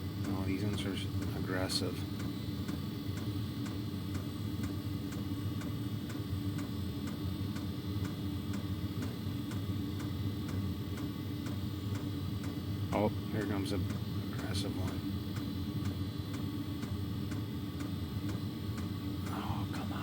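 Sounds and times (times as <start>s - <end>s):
heater blower humming: 0.0s - 20.0s.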